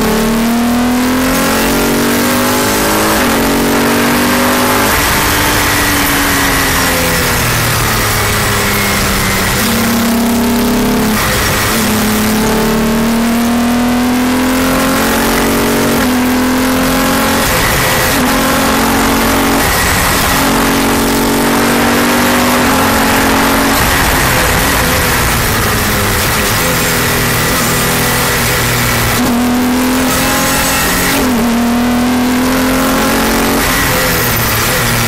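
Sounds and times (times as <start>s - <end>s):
race car engine accelerating: 0.0s - 35.0s
wind and road noise: 0.0s - 35.0s.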